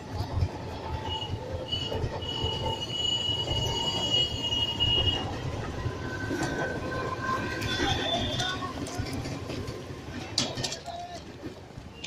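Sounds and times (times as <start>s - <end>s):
moving train rumble: 0.0s - 12.0s
train wheels squealing on rails: 0.0s - 12.0s.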